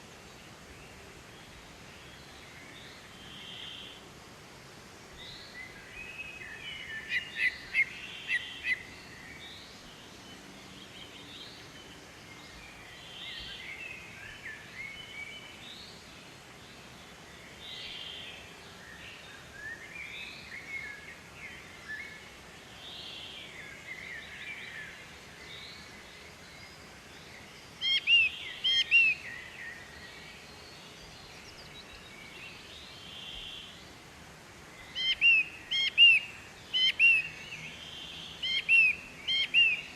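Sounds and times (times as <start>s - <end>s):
faint steady hiss: 0.0s - 39.9s
birds calling and singing: 5.1s - 39.9s.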